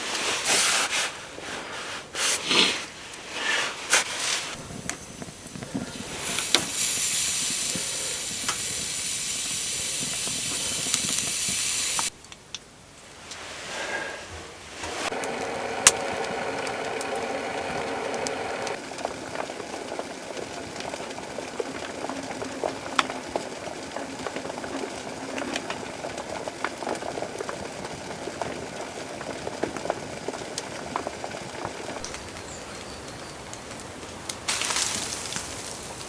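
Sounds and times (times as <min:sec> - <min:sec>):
food sizzling and bubbling: 0:02.5 - 0:13.7, 0:14.6 - 0:36.0
pops and crackles: 0:03.9 - 0:12.7, 0:15.1 - 0:36.0.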